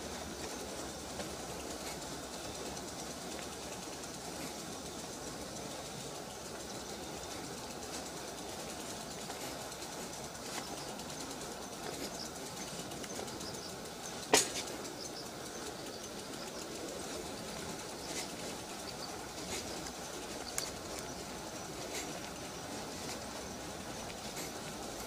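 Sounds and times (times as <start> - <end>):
outdoor background noise: 0.0 - 25.0
small birds chirping: 0.0 - 25.0.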